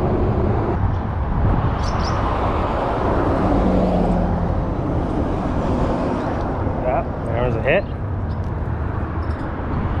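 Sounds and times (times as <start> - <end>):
highway traffic noise: 0.0 - 10.0.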